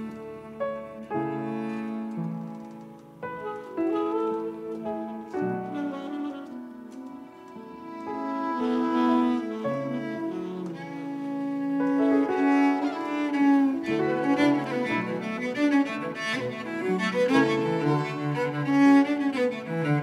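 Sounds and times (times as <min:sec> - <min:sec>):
bowed cello: 0:00.0 - 0:20.0
fiddle: 0:00.0 - 0:20.0
piano: 0:00.0 - 0:20.0
tenor saxophone: 0:00.0 - 0:20.0.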